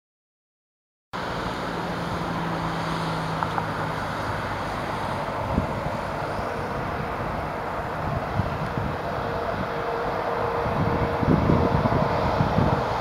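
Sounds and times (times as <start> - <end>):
distant road traffic rumble: 1.2 - 13.0.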